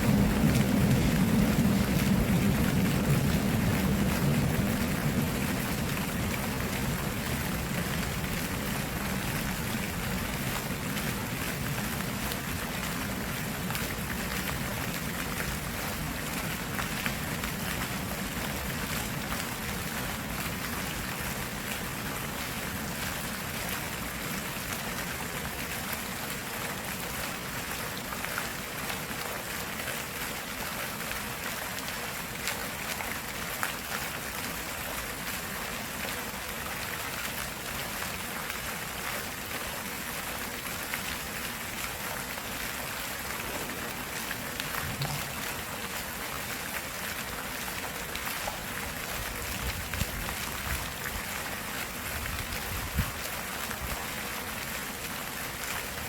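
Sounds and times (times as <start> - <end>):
flowing water rushing: 0.0 - 56.0
water splashes and drips: 0.0 - 56.0.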